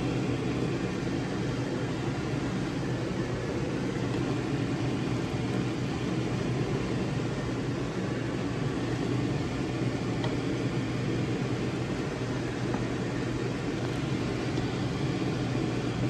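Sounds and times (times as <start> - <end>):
steady low hum and rush: 0.0 - 16.0.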